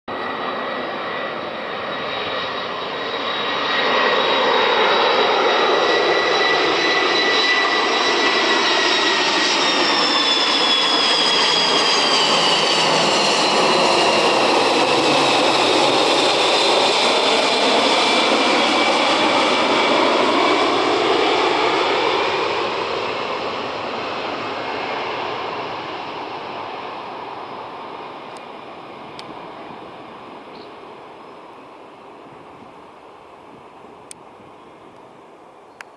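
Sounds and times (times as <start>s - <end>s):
jet engines roaring: 0.1s - 35.8s
high engine whine: 0.1s - 35.9s.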